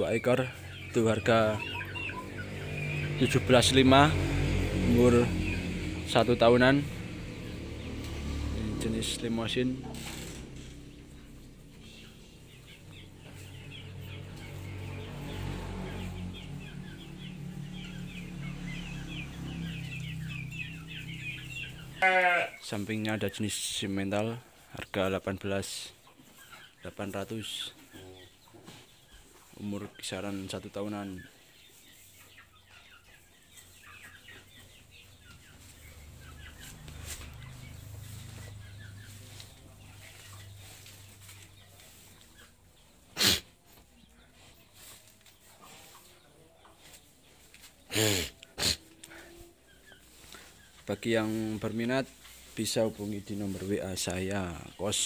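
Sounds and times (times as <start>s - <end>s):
chickens clucking: 0.0s - 22.1s, 22.7s - 55.0s
birds chirping: 0.0s - 55.0s.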